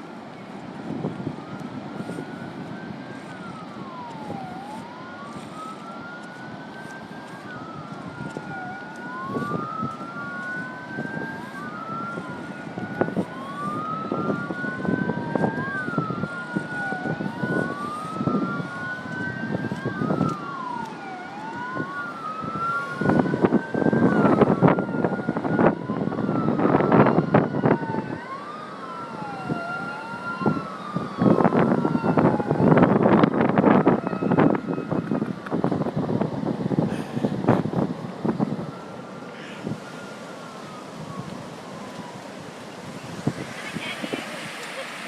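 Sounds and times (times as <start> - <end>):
emergency siren wailing: 0.0 - 45.0
second siren wail: 0.1 - 45.0.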